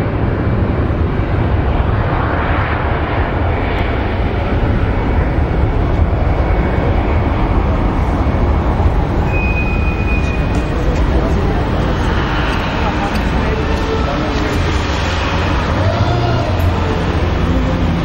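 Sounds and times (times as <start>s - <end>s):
jet engines rumbling: 0.0s - 18.0s
thin steady whine: 0.0s - 18.0s.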